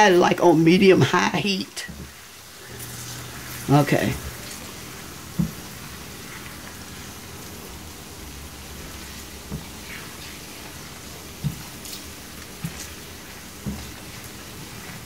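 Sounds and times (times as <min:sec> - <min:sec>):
onions sizzling in frying pan: 0:00.0 - 0:15.0.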